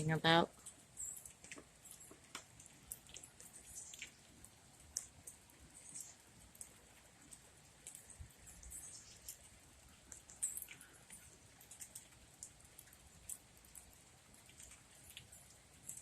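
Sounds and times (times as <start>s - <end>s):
small birds chipping: 0.6s - 16.0s.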